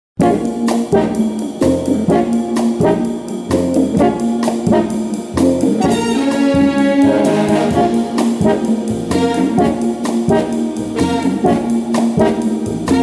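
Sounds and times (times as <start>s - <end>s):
brass jazz music: 0.2s - 13.0s.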